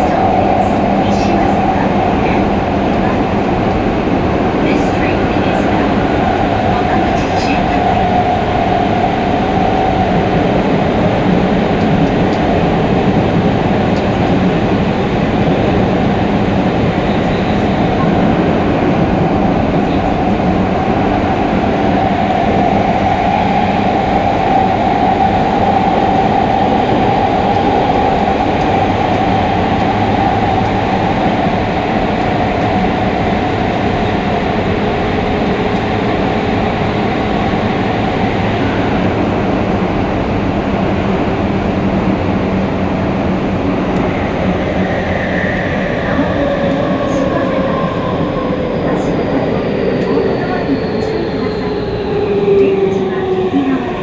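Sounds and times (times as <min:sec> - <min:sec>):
train rumbling in tunnel: 0:00.0 - 0:54.0.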